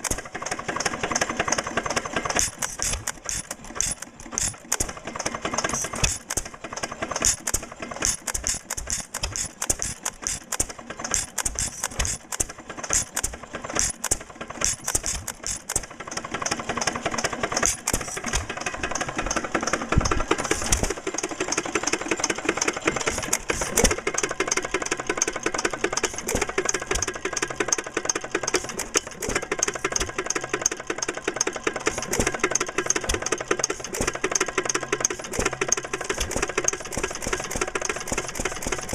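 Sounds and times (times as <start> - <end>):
small gasoline engine clattering: 0.0 - 38.9.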